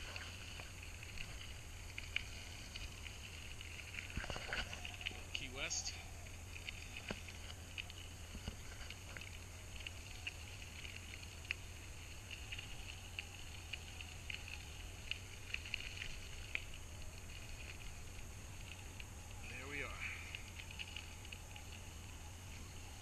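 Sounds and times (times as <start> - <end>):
bicycle tyres on gravel: 0.0 - 23.0
low steady rumble: 0.0 - 23.0.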